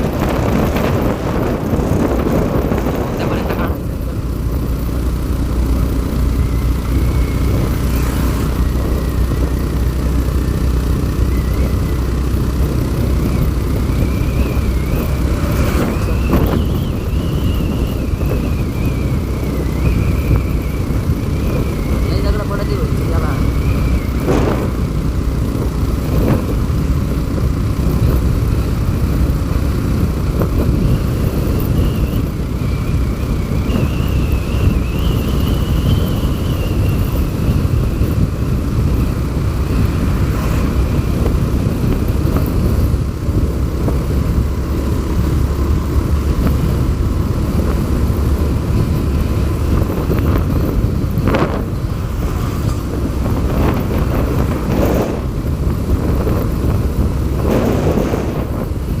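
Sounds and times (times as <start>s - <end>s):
vehicle rumbling on road: 0.0s - 59.0s.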